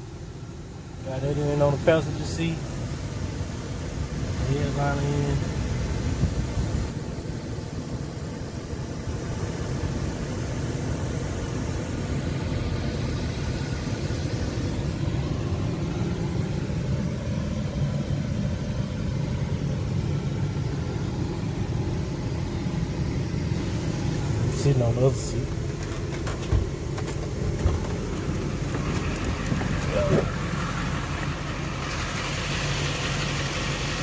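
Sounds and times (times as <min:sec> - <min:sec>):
low mechanical rumble and hum: 0:00.0 - 0:34.0.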